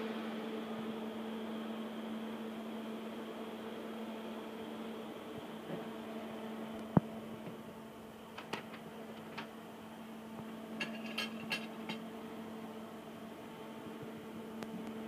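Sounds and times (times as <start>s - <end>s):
cooling fans running: 0.0s - 15.0s
electrical hum: 0.0s - 15.0s.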